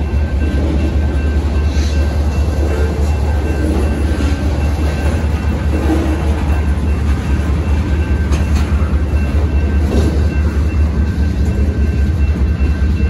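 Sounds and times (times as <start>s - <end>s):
freight train wheels rumbling on rail: 0.0s - 13.0s.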